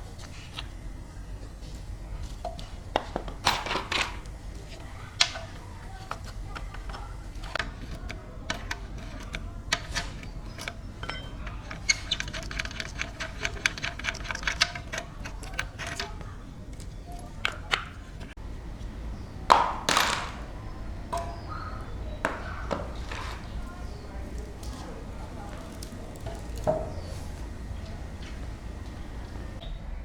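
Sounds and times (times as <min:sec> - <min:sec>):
clicks and knocks on metal: 0:02.2 - 0:18.4, 0:19.5 - 0:29.6.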